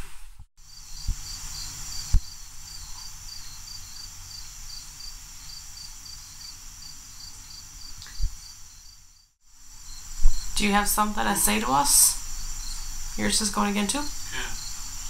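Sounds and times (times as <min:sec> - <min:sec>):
cricket chirping: 0:00.6 - 0:10.8, 0:11.5 - 0:15.0.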